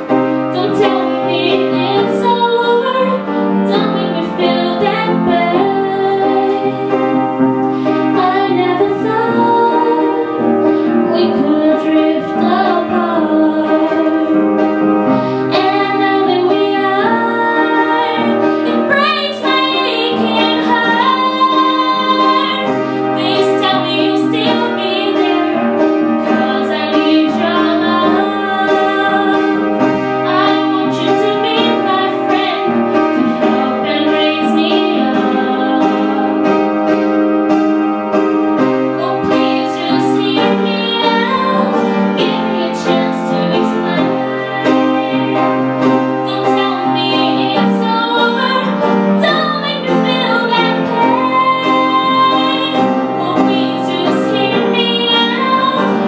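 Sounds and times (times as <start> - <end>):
woman singing: 0.0 - 37.0, 39.0 - 56.0
piano accompaniment: 0.0 - 56.0.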